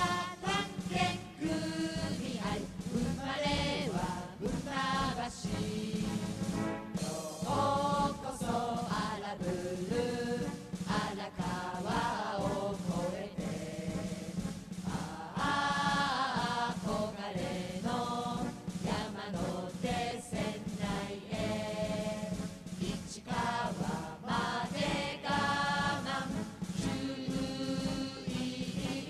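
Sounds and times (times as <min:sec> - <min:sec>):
background music: 0:00.0 - 0:29.0
voices singing: 0:00.0 - 0:29.0.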